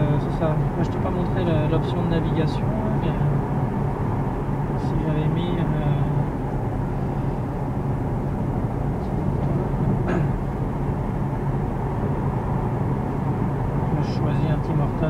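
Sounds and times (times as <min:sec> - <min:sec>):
car cabin road and wind noise: 0:00.0 - 0:15.0.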